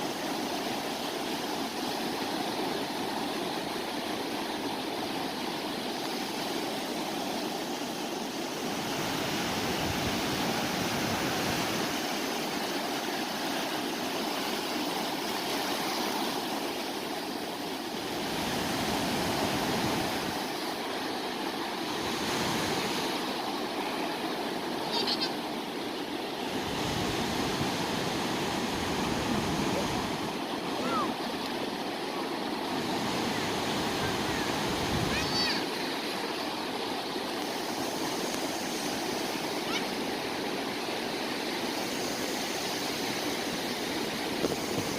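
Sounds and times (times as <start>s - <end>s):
sea waves washing ashore: 0.0s - 44.9s.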